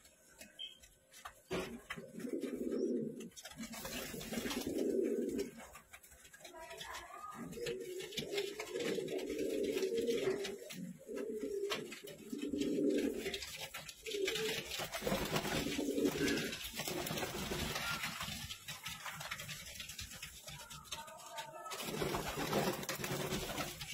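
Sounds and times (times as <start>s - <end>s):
pigeons cooing: 1.5s - 23.9s.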